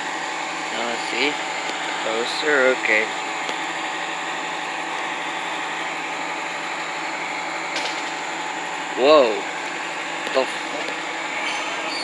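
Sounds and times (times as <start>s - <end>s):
constant whine: 0.0s - 12.0s
mechanical hum and hiss: 0.0s - 12.0s.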